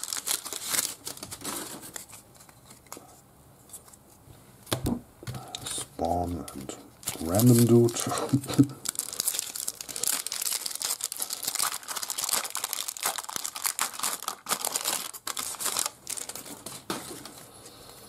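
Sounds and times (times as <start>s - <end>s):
foil wrapper crinkling and tearing: 0.0s - 3.0s, 5.6s - 17.3s.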